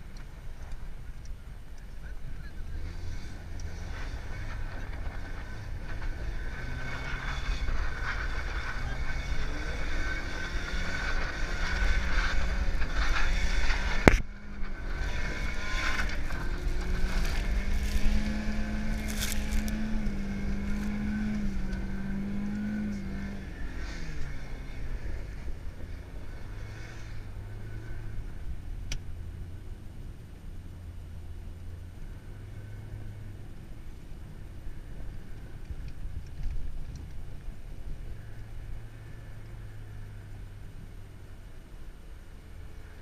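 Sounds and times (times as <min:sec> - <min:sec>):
car engine revving: 0:00.0 - 0:35.6.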